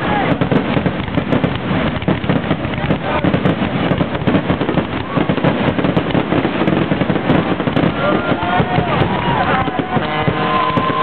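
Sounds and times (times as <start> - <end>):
fireworks bursting: 0.0 - 11.0
fireworks crackling: 0.0 - 11.0.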